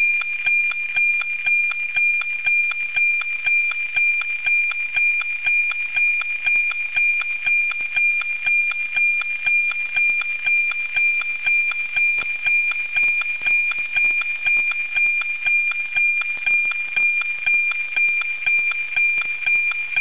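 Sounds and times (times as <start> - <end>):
satellite signal tone ticking: 0.0 - 20.0.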